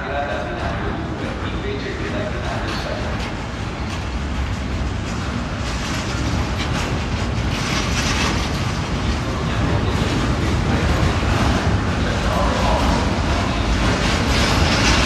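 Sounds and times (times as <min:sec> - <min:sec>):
train wheels clattering on track: 0:00.0 - 0:15.0.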